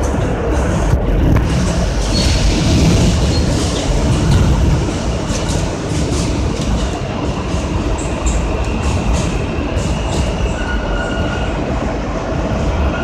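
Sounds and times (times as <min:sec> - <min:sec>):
rail clicks: 0:00.0 - 0:13.0
subway train rumbling: 0:00.0 - 0:13.0.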